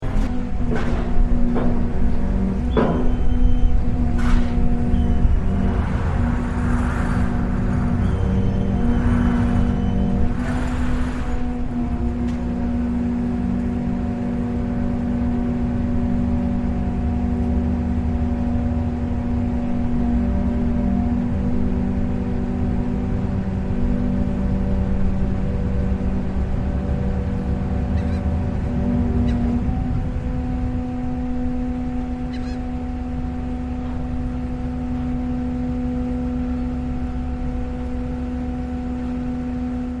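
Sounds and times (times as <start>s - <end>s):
ship engine rumbling: 0.0s - 40.0s.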